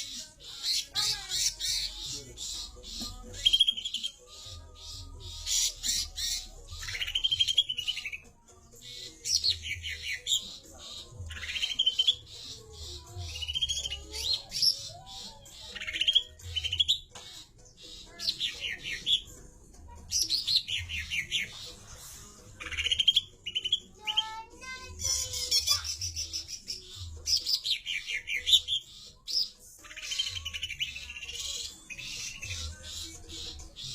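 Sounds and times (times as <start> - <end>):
songbird singing chirps and whistles: 0.0 - 33.9.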